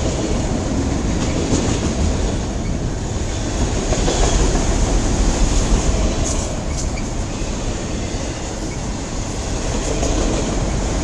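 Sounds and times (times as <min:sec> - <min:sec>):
freight train rumbling past: 0:00.0 - 0:11.0
wheels clattering on rails: 0:01.2 - 0:11.0.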